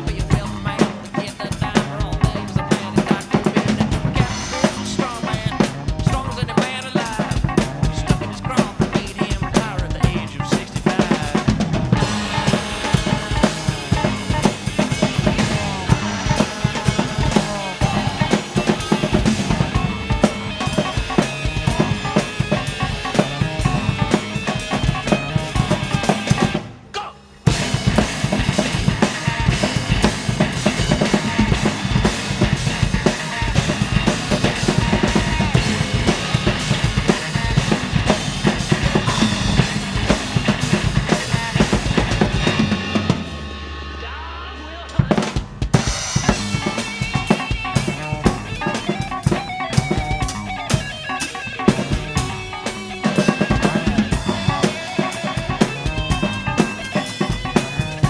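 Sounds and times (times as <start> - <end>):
rock band backing track: 0.0 - 58.0
rock drum kit playing: 0.0 - 58.0.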